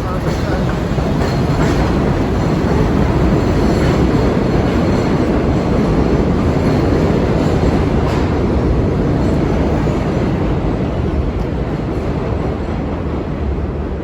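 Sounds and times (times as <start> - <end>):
subway train running: 0.0 - 14.0.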